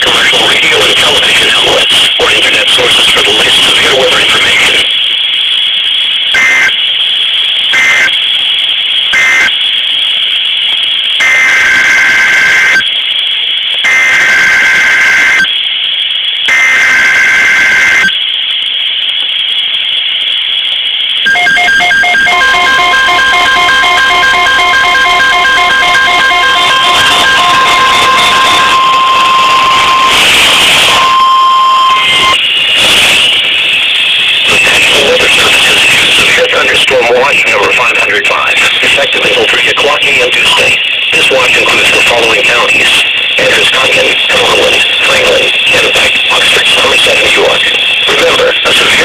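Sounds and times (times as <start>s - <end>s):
two-tone data bursts: 0.0s - 5.1s, 6.3s - 6.9s, 7.6s - 8.2s, 9.1s - 9.7s, 11.2s - 12.9s, 13.8s - 15.6s, 16.5s - 18.2s, 21.2s - 49.0s
radio warning alarm tone: 0.0s - 49.0s
steady high whine: 0.0s - 49.0s.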